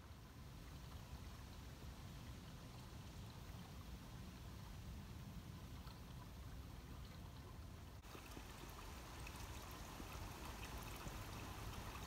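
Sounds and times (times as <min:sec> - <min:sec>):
faint rushing outdoor ambience: 0:00.0 - 0:12.0.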